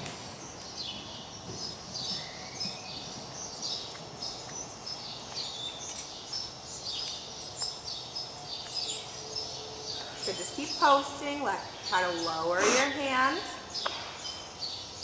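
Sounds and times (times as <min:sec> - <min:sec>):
faint background noise: 0:00.0 - 0:15.0
small birds chirping: 0:00.2 - 0:15.0.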